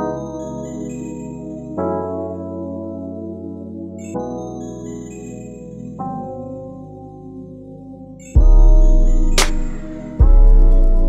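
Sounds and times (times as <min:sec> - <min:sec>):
soft ambient keyboard chord: 0:00.0 - 0:11.0.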